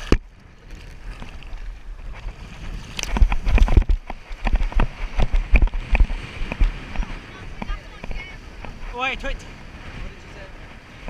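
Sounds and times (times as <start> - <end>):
small waves washing ashore: 0.0 - 11.0
wind buffeting microphone: 0.0 - 11.0.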